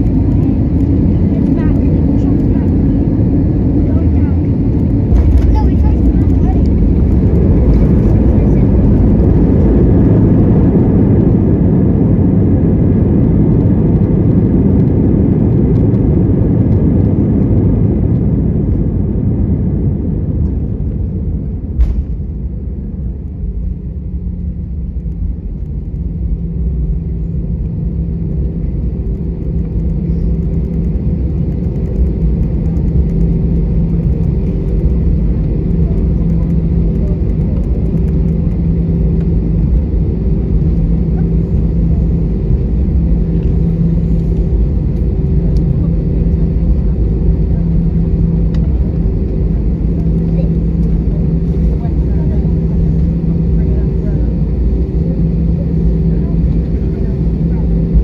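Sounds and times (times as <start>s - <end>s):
low hum with steady tones: 0.0s - 58.0s
rumble of engines and wheels: 0.0s - 58.0s.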